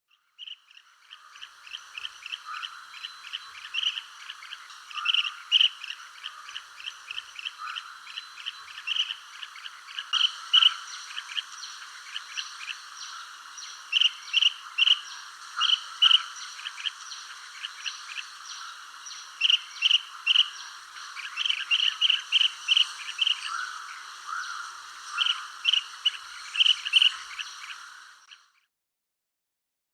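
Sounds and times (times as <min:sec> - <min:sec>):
small birds chirping: 0:00.1 - 0:28.6
insect-like trilling: 0:01.4 - 0:28.2.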